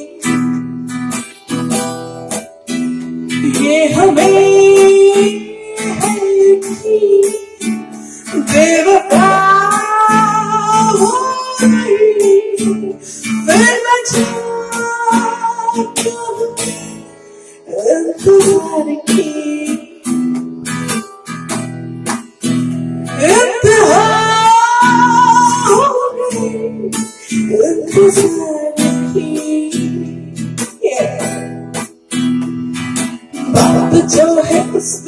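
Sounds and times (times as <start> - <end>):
woman singing into microphone: 0.0 - 1.6, 3.2 - 20.4, 23.1 - 31.7, 32.4 - 35.0
strummed acoustic guitar: 0.0 - 35.0.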